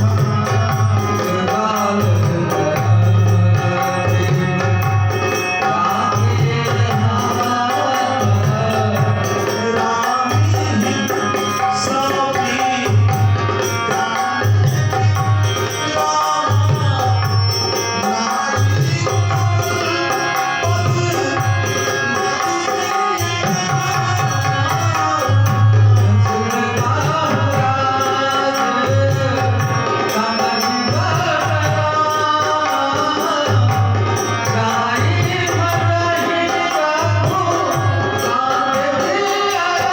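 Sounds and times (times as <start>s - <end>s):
hand drum rhythm: 0.0s - 39.9s.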